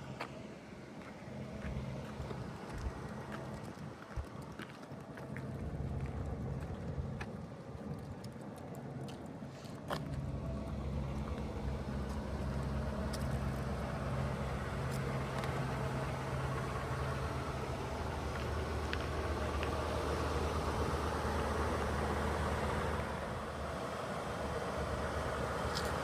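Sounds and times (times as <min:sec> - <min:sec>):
car engine idling: 0:00.0 - 0:08.2, 0:10.0 - 0:26.0.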